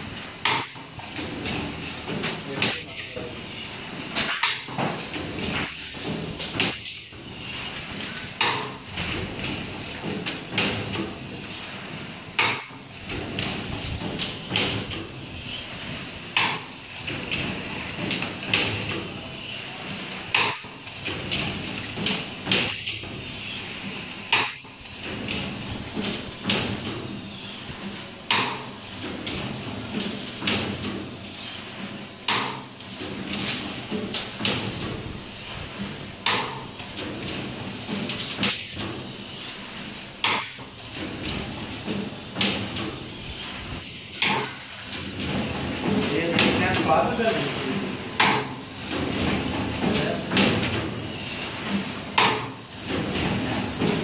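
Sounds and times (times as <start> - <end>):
mechanical running noise: 0.0 - 54.0.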